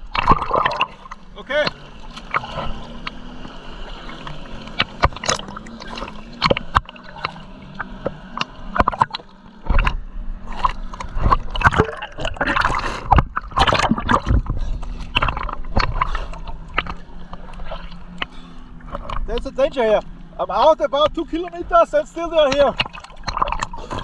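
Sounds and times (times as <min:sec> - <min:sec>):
seawater splashing from swim strokes: 0:00.0 - 0:20.4, 0:21.2 - 0:24.0
faint low engine hum: 0:00.0 - 0:24.0.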